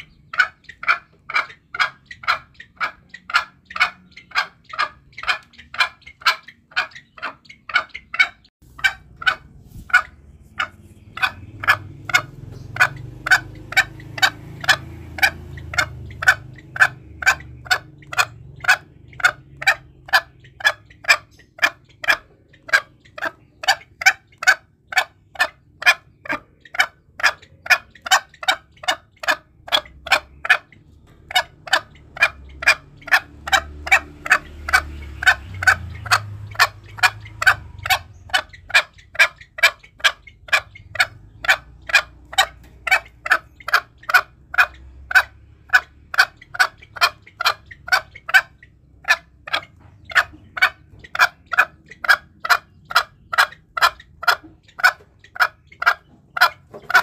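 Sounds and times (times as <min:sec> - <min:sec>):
junglefowl clucking call: 0:00.0 - 0:57.0.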